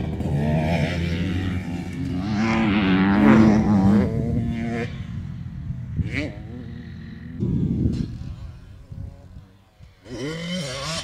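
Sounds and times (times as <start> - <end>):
motocross bike engine accelerating: 0.0 - 11.0.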